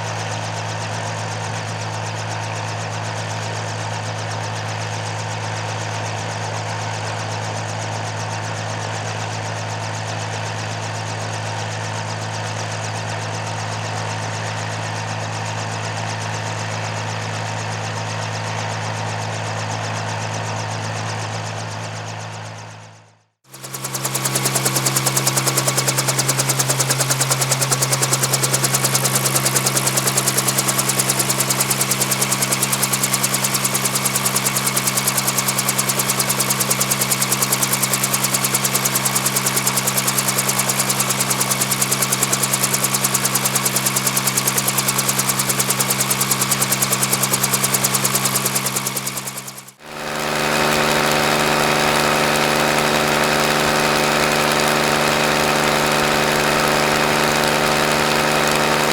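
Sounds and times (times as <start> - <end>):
helicopter rotor beating: 0.1 - 22.6, 23.5 - 58.9
helicopter engine hum: 0.1 - 22.8, 23.5 - 58.9.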